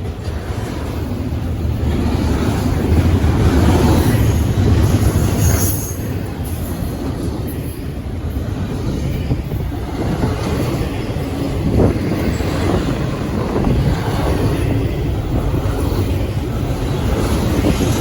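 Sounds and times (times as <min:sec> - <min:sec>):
freight train cars rolling past: 0:00.0 - 0:18.0.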